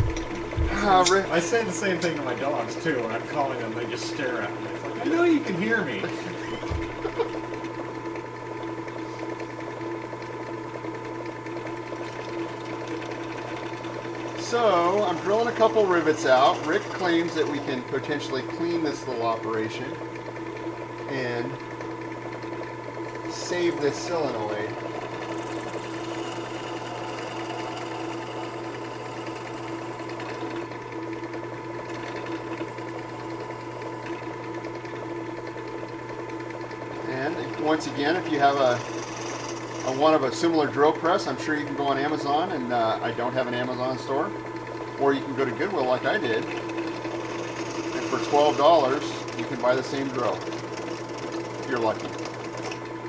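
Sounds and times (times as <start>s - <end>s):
drill press drilling metal: 0.0s - 53.0s.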